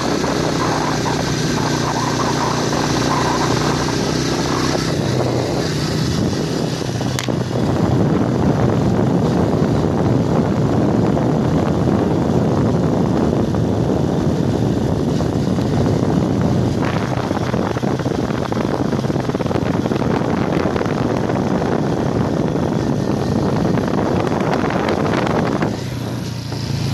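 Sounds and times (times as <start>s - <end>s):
motorcycle engine running: 0.0s - 26.9s
wind rushing over microphone: 0.0s - 26.9s.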